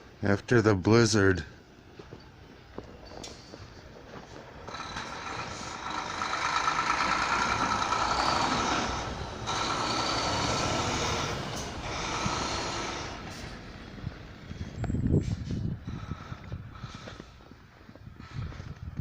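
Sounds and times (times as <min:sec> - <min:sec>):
heavy truck passing: 0:01.8 - 0:18.6.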